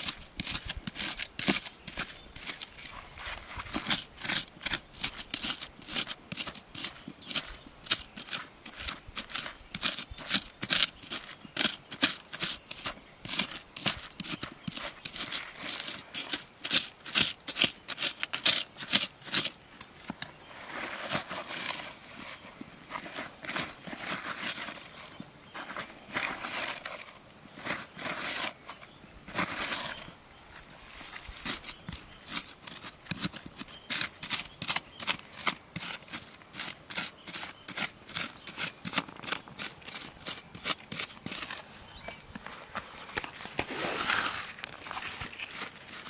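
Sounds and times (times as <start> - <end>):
hand raking through dirt: 0.0 - 46.0
metal tool digging into soil: 0.0 - 46.0.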